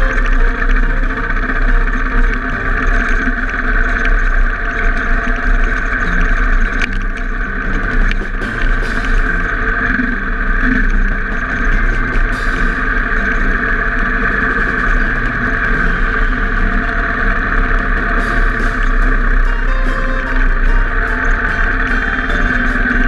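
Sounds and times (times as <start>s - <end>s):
motorcycle engine running under load: 0.0s - 23.0s.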